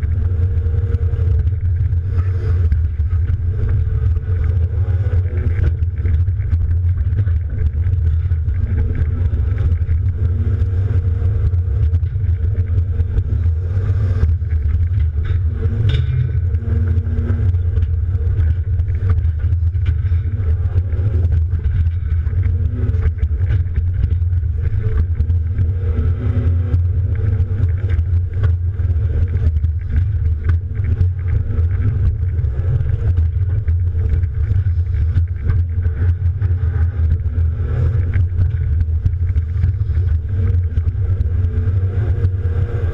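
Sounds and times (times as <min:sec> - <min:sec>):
faint clicks and knocks: 0:00.0 - 0:42.9.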